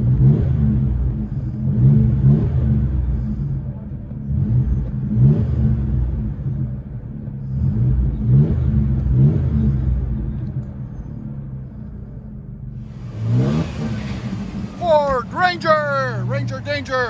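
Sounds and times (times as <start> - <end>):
truck engine revving: 0.0 - 10.6, 12.8 - 17.0.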